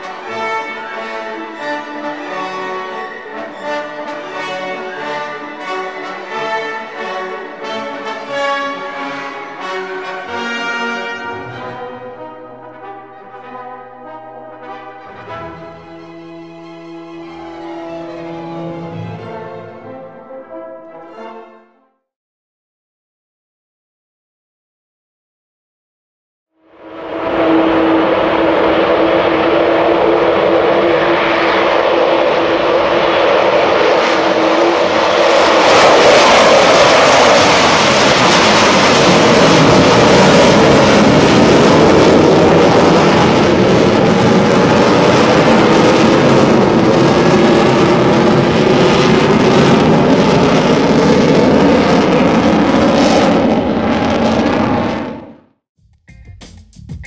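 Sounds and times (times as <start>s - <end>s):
jet engines roaring: 0.0s - 20.2s, 26.7s - 55.4s
steady jet whine: 0.0s - 20.2s, 26.7s - 55.4s.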